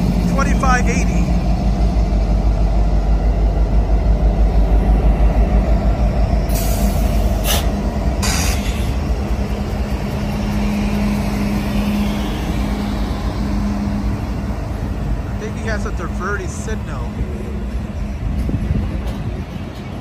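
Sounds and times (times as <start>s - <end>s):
diesel locomotives rumbling past: 0.0s - 20.0s.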